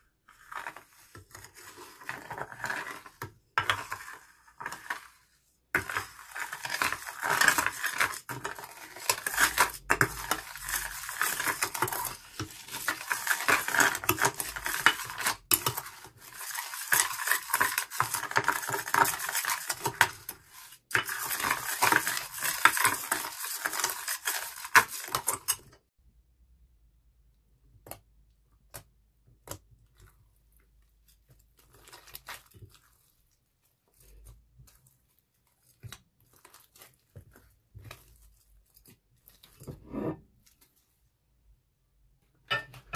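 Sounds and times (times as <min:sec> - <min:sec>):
spoon scraping slime in glass dish: 0:00.0 - 0:25.8, 0:30.8 - 0:40.8.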